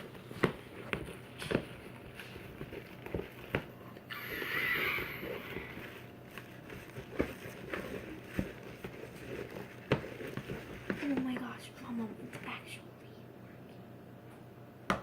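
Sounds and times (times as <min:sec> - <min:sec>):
spoon stirring slime: 0:00.0 - 0:12.6.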